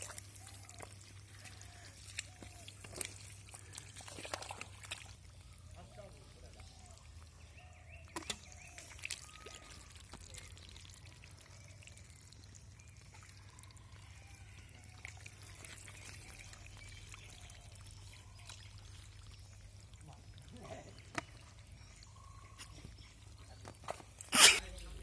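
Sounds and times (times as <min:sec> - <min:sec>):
mud and water squelching: 0:00.0 - 0:25.0.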